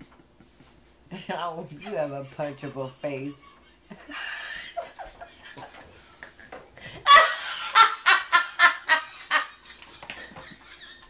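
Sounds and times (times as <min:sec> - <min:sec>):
woman laughing hard: 0:01.8 - 0:11.0.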